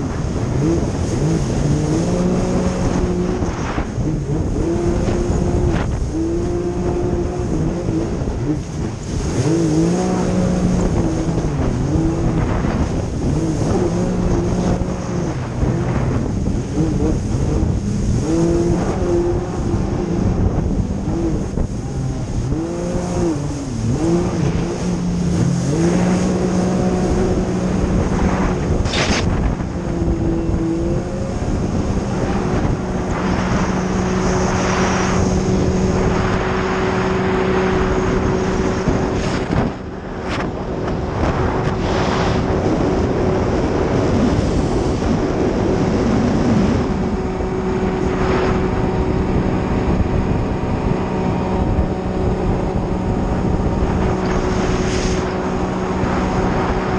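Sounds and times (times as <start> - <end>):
jet ski engine running: 0.0 - 56.9
wind on microphone: 0.0 - 56.9.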